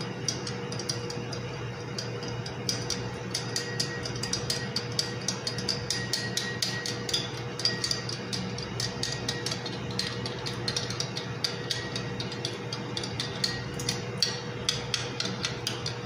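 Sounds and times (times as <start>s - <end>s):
steady hum: 0.0s - 16.0s
spoon clinking against ceramic bowl: 2.1s - 16.0s.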